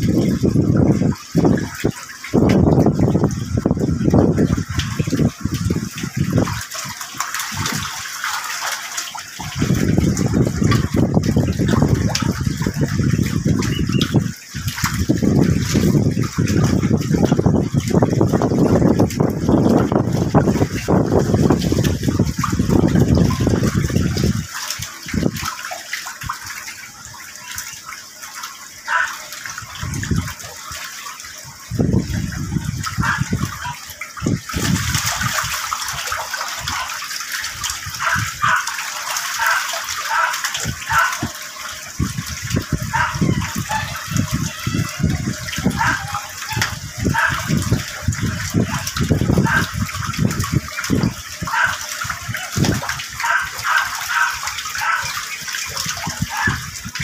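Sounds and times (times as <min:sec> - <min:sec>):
wind on microphone: 0:00.0 - 0:08.0, 0:09.4 - 0:25.5, 0:28.9 - 0:30.6, 0:31.4 - 0:36.9, 0:37.5 - 0:38.7, 0:39.4 - 0:57.0
short water splashes: 0:00.0 - 0:57.0
water gushing and splashing: 0:00.0 - 0:57.0.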